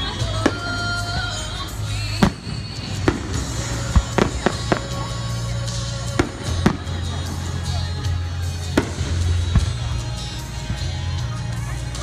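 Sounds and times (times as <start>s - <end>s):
music with steady bass: 0.0s - 12.0s.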